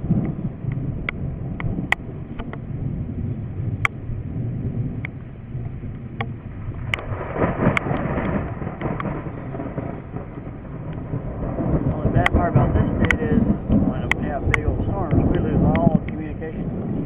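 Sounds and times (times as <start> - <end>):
raindrops tapping on camera: 0.0 - 3.1, 3.7 - 17.0
rain and wind rumbling: 0.0 - 17.0.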